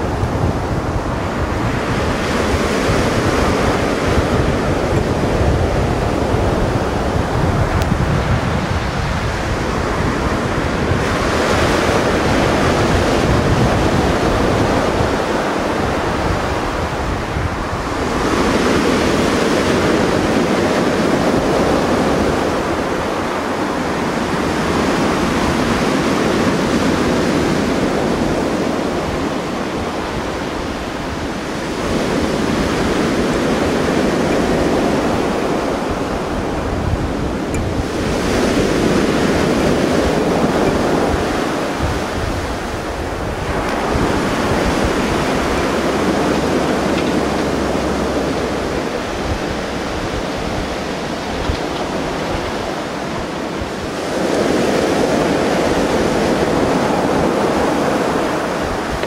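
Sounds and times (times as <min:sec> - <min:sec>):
surf washing onto shore: 0:00.0 - 0:59.0
wind rumbling on microphone: 0:00.0 - 0:59.0.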